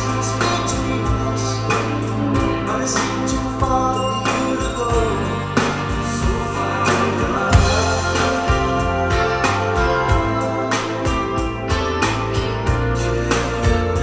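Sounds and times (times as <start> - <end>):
full band music with beat: 0.0 - 14.0
singing: 0.0 - 14.0
sustained bass line: 0.0 - 14.0.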